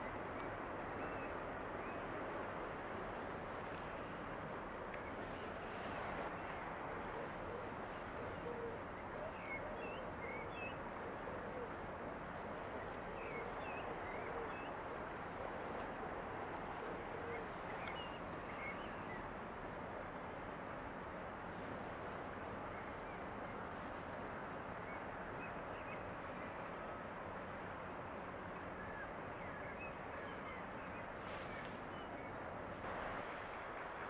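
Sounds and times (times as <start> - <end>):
harbour ambience: 0.0 - 34.0.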